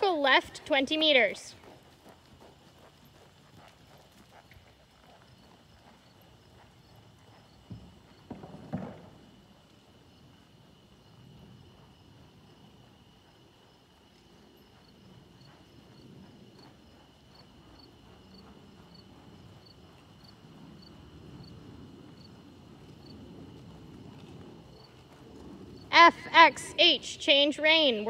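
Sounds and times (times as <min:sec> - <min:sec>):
horse hoofbeats on sand: 0:00.0 - 0:26.6.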